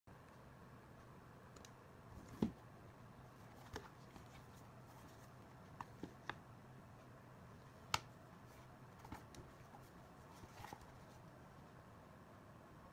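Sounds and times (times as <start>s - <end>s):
faint low hum: 0.1s - 12.9s.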